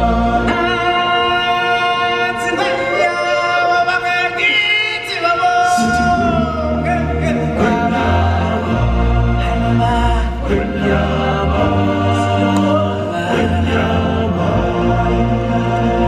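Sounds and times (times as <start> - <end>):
voices singing long sliding notes: 0.0 - 16.0.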